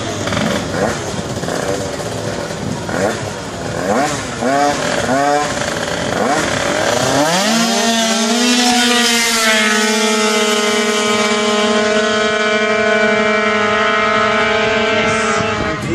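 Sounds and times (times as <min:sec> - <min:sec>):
two-stroke scooter engines revving: 0:00.0 - 0:15.9.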